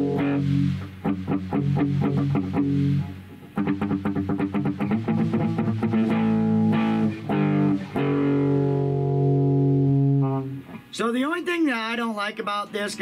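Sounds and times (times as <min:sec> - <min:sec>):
overdriven electric guitar: 0:00.0 - 0:11.0.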